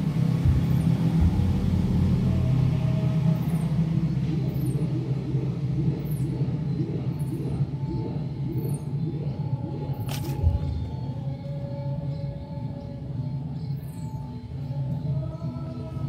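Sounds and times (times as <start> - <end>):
motor running with droning hum: 0.0 - 16.0.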